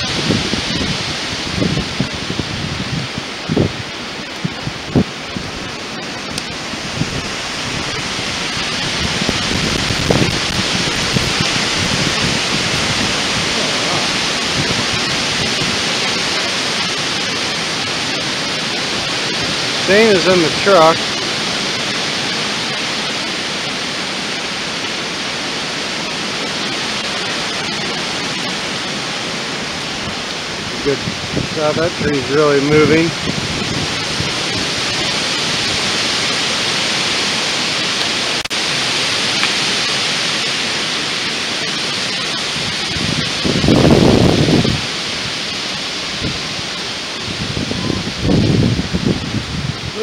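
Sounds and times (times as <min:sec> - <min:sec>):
wind buffeting microphone: 0:00.0 - 0:40.4, 0:41.9 - 0:50.0
wind rushing through leaves: 0:00.0 - 0:50.0.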